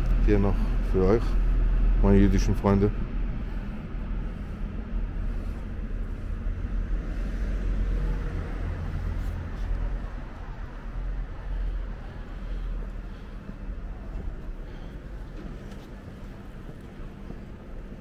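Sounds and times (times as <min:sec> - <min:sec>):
city street ambience: 0:00.0 - 0:18.0.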